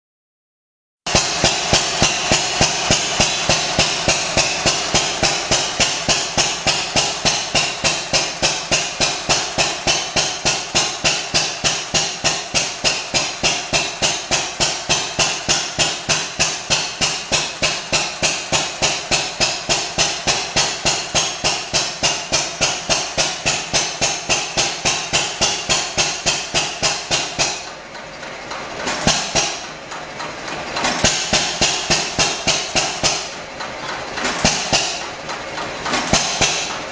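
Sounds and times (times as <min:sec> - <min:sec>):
stationary engine running: 0:01.1 - 0:36.9.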